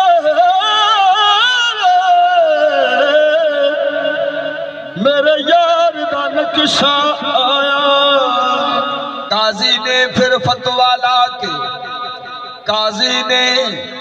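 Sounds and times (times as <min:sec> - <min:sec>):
man singing long notes: 0:00.0 - 0:14.0.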